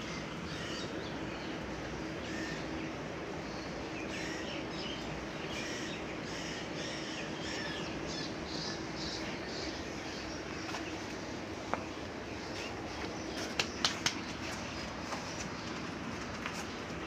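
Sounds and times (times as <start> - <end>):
faint hum: 0.0 - 17.0
small birds chirping: 0.0 - 17.0.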